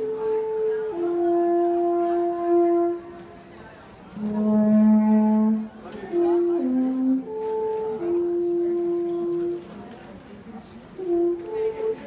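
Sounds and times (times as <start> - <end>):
alphorn playing long notes: 0.0 - 3.4, 4.1 - 9.8, 11.0 - 12.0.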